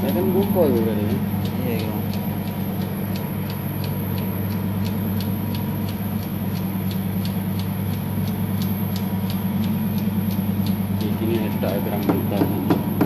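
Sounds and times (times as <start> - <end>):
light regular ticking: 0.0 - 13.0
machine humming: 0.0 - 13.0.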